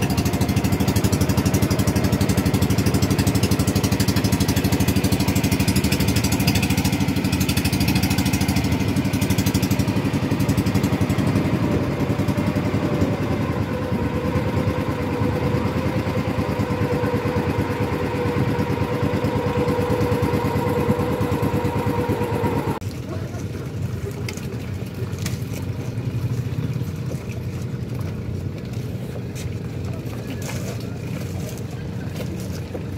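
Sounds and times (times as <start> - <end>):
small boat engine running: 0.0 - 32.9.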